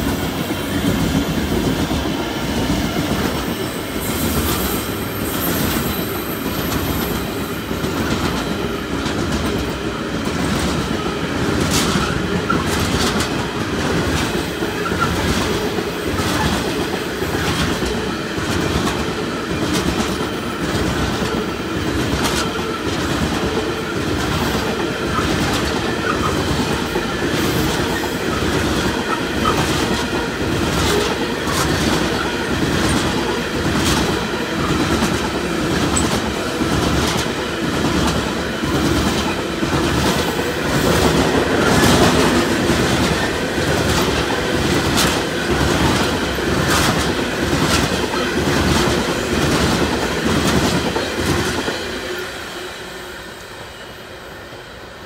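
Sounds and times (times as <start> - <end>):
train wheels clickety-clack: 0.0 - 52.3
train rumble: 0.0 - 54.2
diesel locomotive passing: 0.0 - 55.0.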